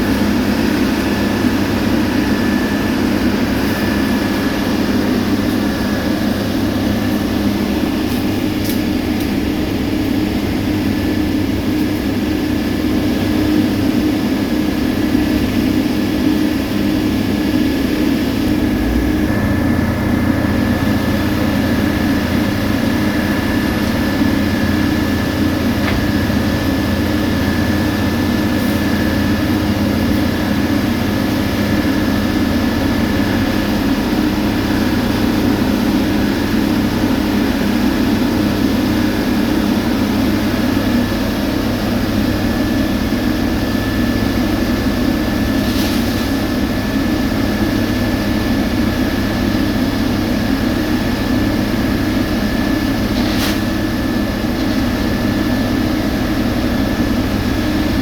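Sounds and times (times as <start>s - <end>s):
diesel paving machinery engine drone: 0.0s - 58.0s
thin steady whine: 0.0s - 58.0s.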